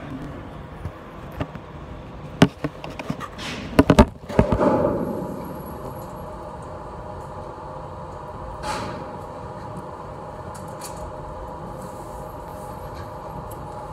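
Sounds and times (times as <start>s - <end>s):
steady hum: 0.0s - 13.9s.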